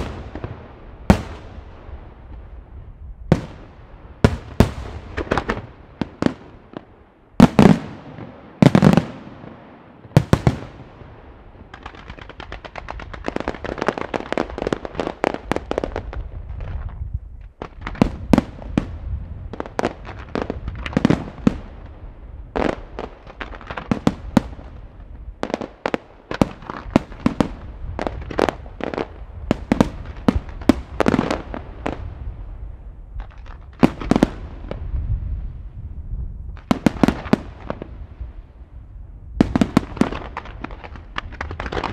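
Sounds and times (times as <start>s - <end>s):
crackling firework reports: 0.0s - 41.9s.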